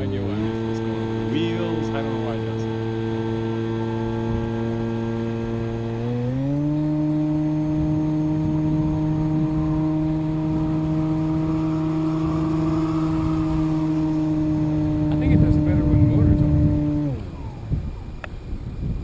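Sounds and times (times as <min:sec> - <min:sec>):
model plane motor and propeller hum: 0:00.0 - 0:19.0.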